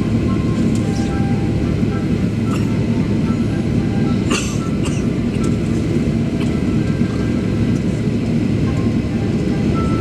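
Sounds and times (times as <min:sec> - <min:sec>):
airplane cabin rumble: 0:00.0 - 0:10.0.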